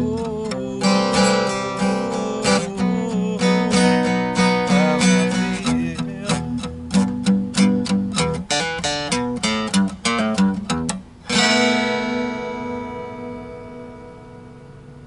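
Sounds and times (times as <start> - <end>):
acoustic blues guitar: 0.0 - 15.0.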